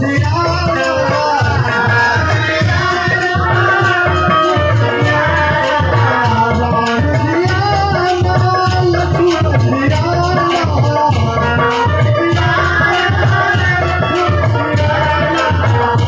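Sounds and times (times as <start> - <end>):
drum beat: 0.0 - 16.0
person singing: 0.0 - 16.0
rattling percussion: 0.0 - 16.0.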